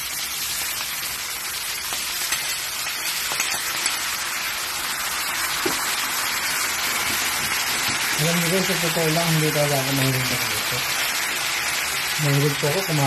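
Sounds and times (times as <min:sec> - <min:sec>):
crabs sizzling in hot oil: 0:00.0 - 0:13.0.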